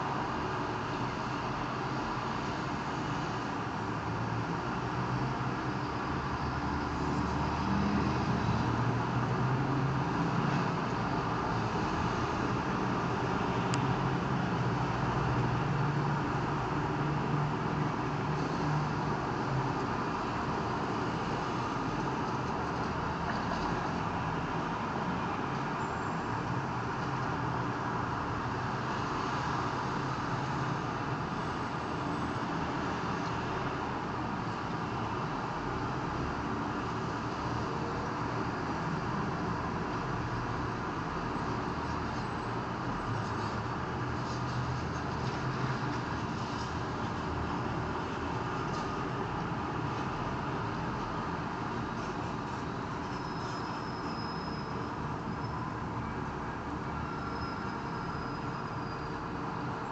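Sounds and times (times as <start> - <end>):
car and bus engines: 0.0 - 59.9
road traffic hum: 0.0 - 59.9.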